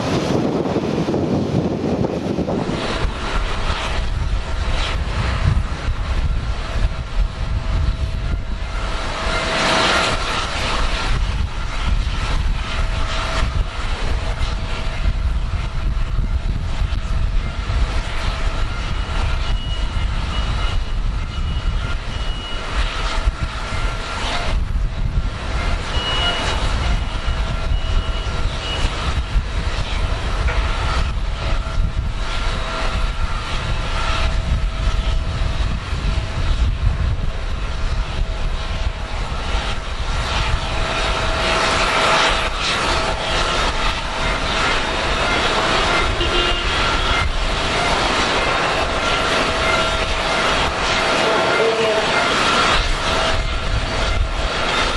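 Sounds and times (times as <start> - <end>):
jet engine whine: 0.0 - 54.9
low rumble: 0.0 - 54.9.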